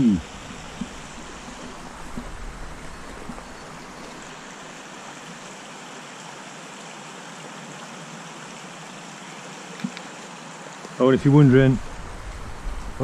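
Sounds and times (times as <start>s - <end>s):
stream flowing water: 0.0s - 13.0s.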